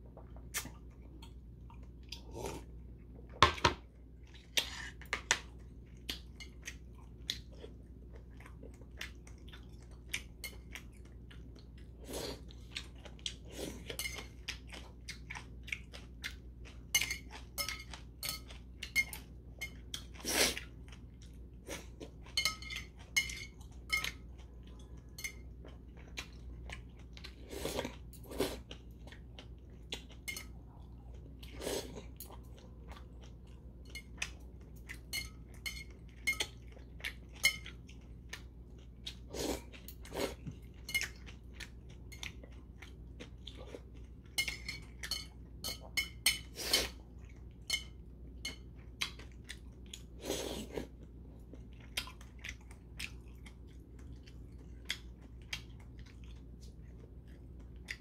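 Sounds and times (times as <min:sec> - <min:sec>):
chewing with mouth smacks: 0:00.1 - 0:58.0.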